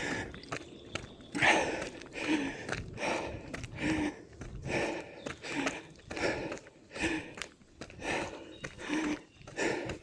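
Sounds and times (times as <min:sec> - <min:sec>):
footstep clicks: 0:00.0 - 0:10.0
runner breathing hard: 0:00.0 - 0:10.0.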